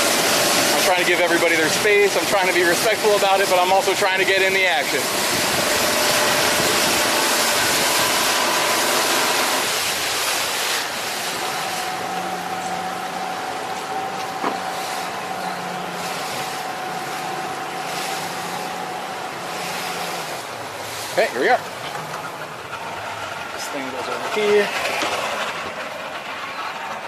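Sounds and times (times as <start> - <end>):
wind and water spray rushing: 0.0 - 26.3
boat motor drone: 0.0 - 27.0.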